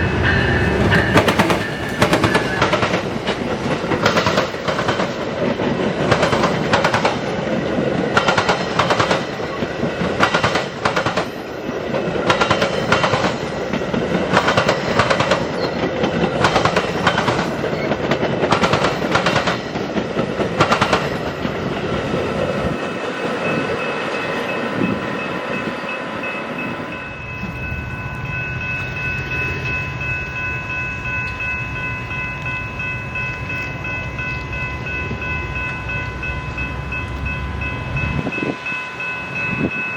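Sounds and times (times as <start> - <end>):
train wheels clicking over rail joints: 0.0 - 35.9.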